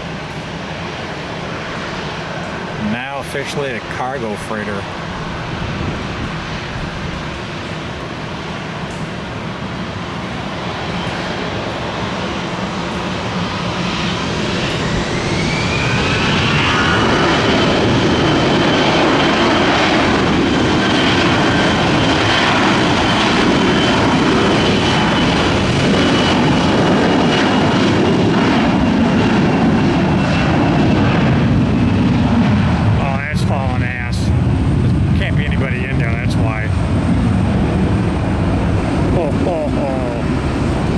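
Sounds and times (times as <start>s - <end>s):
high-pitched engine whine: 0.0s - 40.9s
jet engines roaring: 0.0s - 40.9s.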